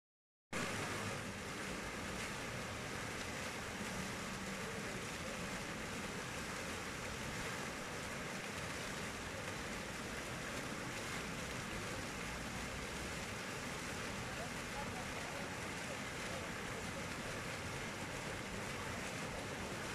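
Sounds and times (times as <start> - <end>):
fountain jets splashing: 0.6 - 19.9.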